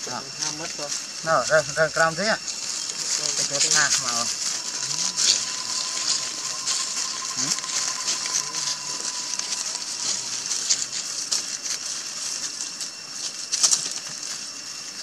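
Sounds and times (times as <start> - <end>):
faint steady tone: 0.0 - 15.0
steady high hiss: 0.0 - 15.0.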